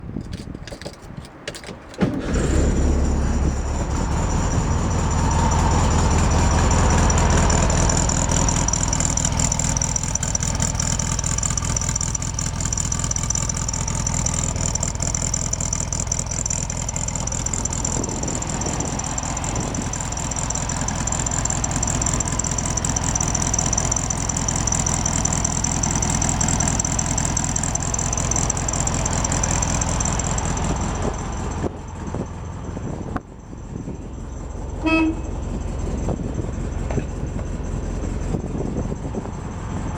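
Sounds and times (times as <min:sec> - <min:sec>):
engine cranking: 0:00.2 - 0:39.9
car engine idling: 0:01.9 - 0:39.9.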